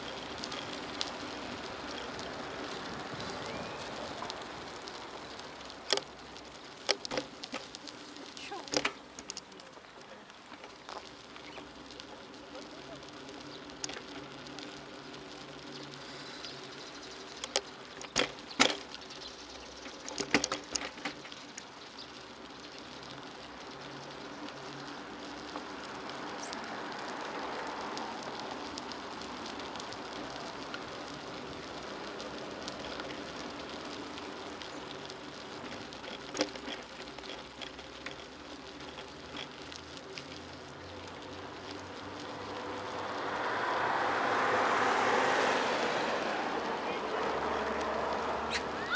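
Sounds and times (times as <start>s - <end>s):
bicycle rattling over bumps: 0.0s - 48.9s
bicycle rolling on asphalt: 0.0s - 48.9s.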